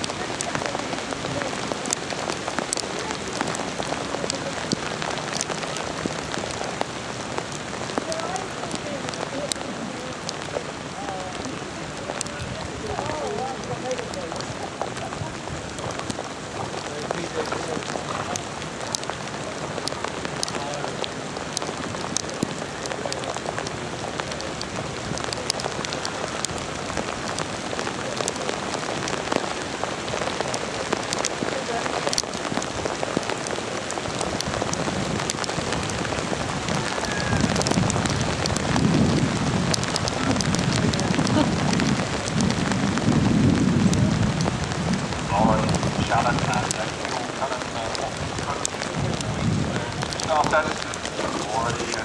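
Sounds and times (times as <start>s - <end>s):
raindrop taps: 0.0s - 52.0s
steady rain hiss: 0.0s - 52.0s.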